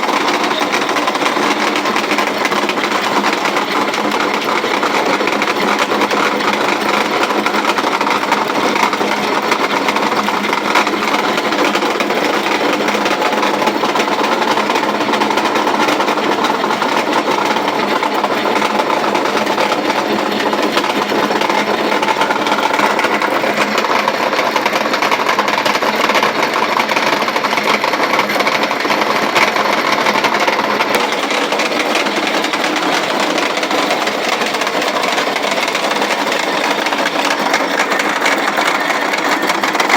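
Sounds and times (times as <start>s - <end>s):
grain mill clattering: 0.0s - 39.9s.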